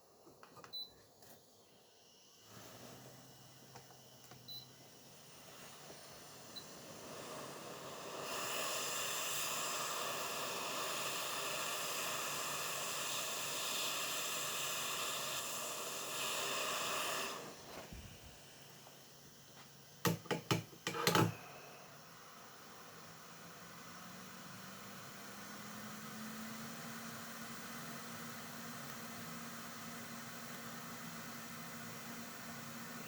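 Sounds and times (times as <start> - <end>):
air blowing hiss: 1.6 - 4.2, 4.8 - 19.4, 21.0 - 33.0.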